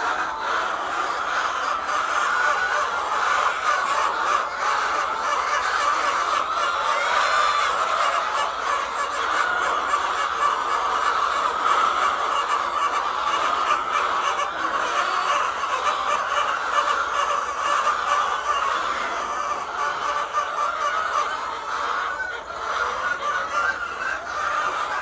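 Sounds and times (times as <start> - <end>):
hens clucking: 0.0 - 25.0.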